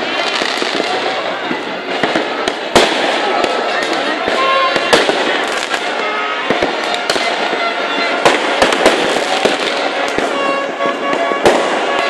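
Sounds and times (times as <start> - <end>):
continuous dense din: 0.0 - 12.0
firecrackers bangs and crackles: 0.0 - 12.0.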